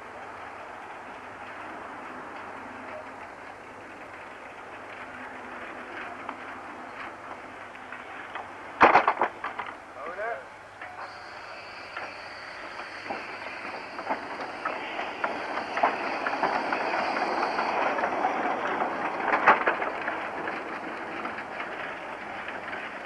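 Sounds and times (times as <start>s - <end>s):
train wheels clicking over rail joints: 0.3s - 10.0s, 10.6s - 23.0s.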